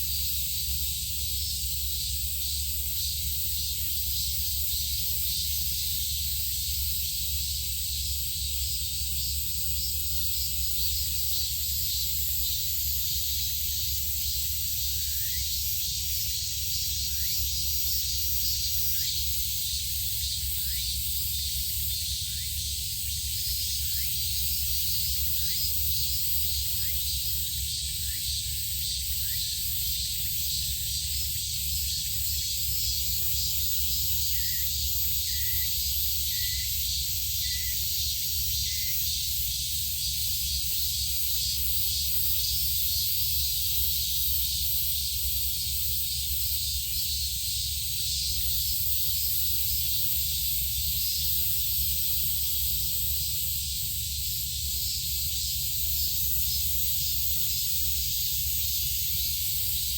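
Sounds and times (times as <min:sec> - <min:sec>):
high outdoor hiss: 0:00.0 - 0:59.9.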